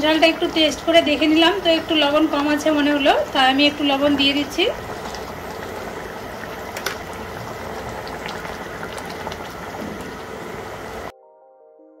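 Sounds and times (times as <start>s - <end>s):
curry bubbling in a pan: 0.0s - 11.1s.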